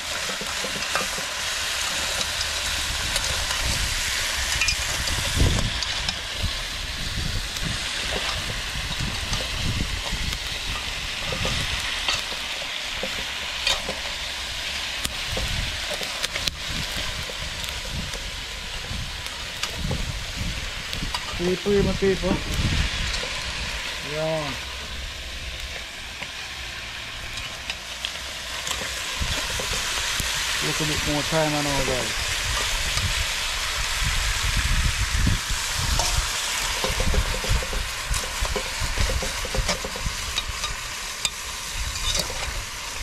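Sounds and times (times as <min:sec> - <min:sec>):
food sizzling in sauce: 0:00.0 - 0:43.0.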